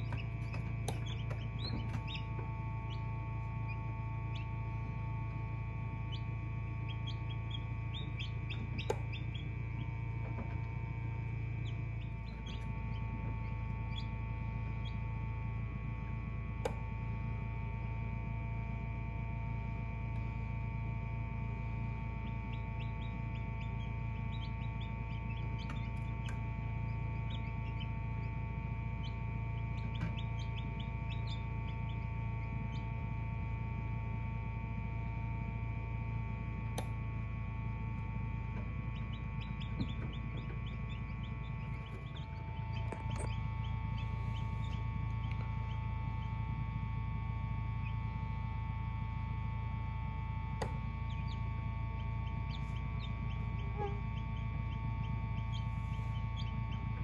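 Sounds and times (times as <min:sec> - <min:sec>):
chicks peeping: 0:00.0 - 0:17.9, 0:19.6 - 0:34.2, 0:36.3 - 0:49.3, 0:50.0 - 0:57.0
incubator hum: 0:00.0 - 0:57.0.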